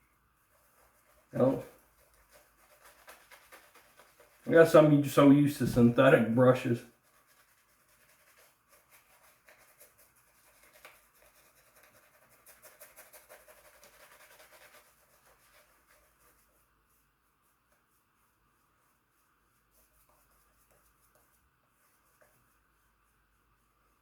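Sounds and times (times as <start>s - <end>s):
shaving brush rubbing lather: 0.4s - 24.0s.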